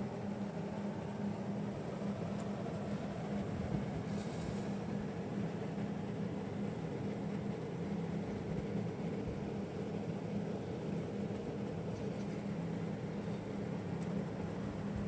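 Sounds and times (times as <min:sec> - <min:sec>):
computer cooling fans humming: 0:00.0 - 0:15.0.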